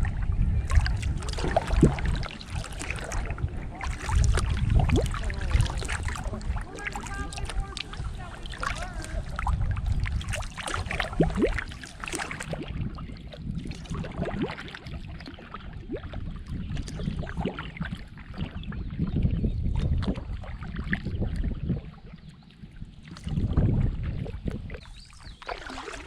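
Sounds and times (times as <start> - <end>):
paddle splashing water: 0.0 - 26.0
wind rumble on microphone: 0.0 - 26.0.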